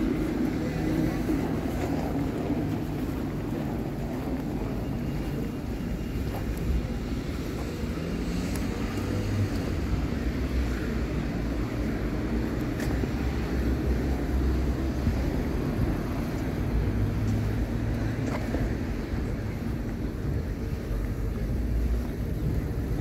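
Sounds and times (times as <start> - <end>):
cars driving past: 0.0 - 23.0.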